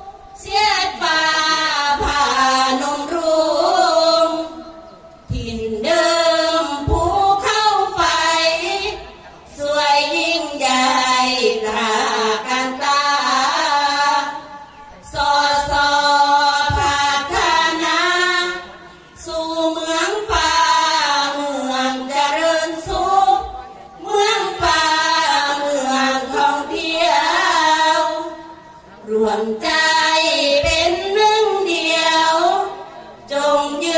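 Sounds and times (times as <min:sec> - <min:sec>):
women singing together: 0:00.0 - 0:33.9.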